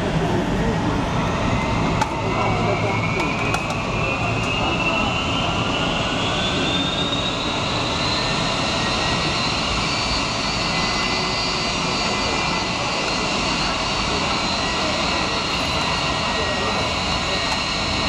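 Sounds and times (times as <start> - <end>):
jet engine rush: 0.0 - 18.0
jet engine whine rising: 0.0 - 18.0.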